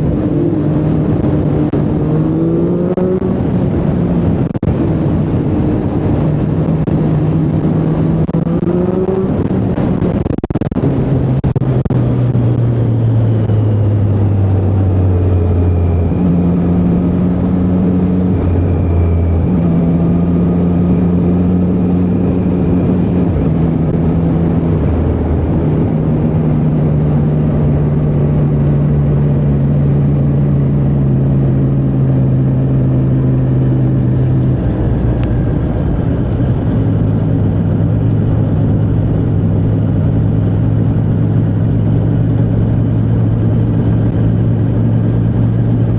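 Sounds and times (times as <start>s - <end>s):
motorcycle engine on the road: 0.0s - 45.9s.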